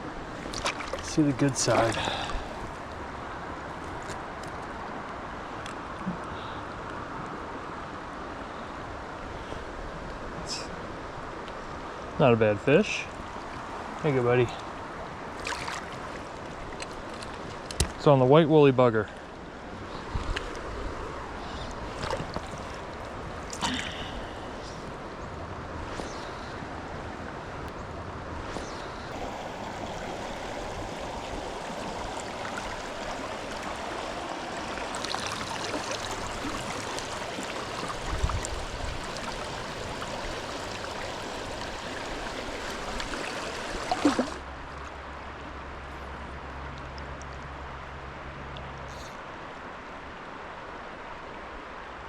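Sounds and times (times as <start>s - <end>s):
creek water flowing over rocks: 0.0s - 52.0s.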